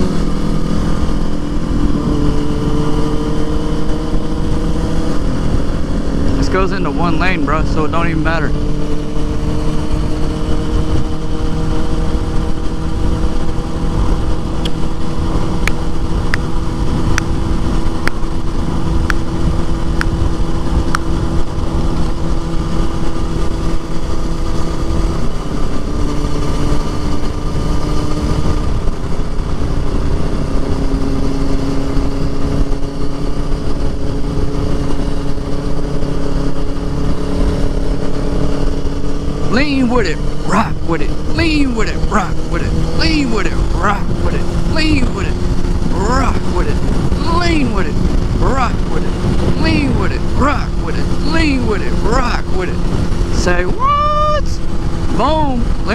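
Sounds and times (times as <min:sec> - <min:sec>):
motorcycle engine running: 0:00.0 - 0:55.9
wind and road noise: 0:00.0 - 0:55.9.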